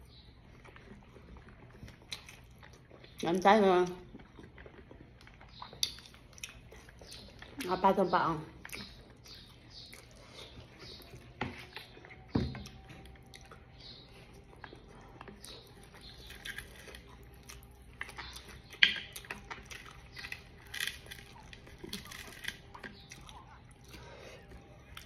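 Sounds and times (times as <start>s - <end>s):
person chewing food: 0.0s - 3.2s, 3.8s - 7.8s, 8.5s - 25.0s.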